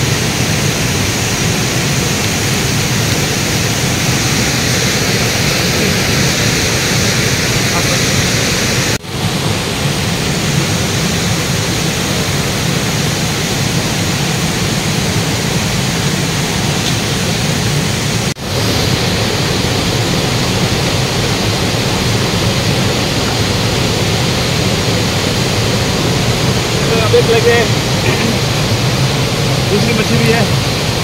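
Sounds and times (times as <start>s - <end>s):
river flowing over rocks: 0.0s - 31.0s.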